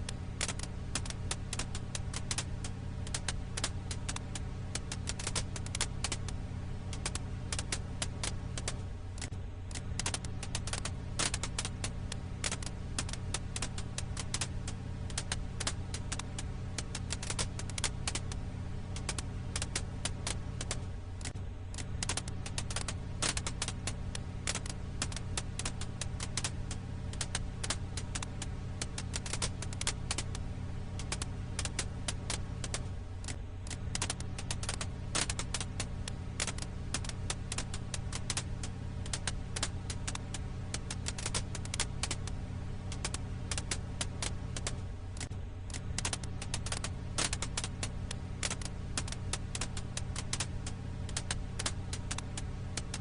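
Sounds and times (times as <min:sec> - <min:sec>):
firewood crackling: 0:00.0 - 0:53.0
steady low rumble: 0:00.0 - 0:53.0.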